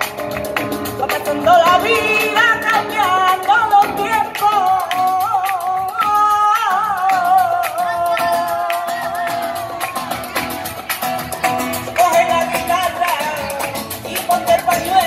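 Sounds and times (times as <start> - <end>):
acoustic guitar: 0.0 - 15.0
woman singing: 0.9 - 10.4, 11.3 - 15.0.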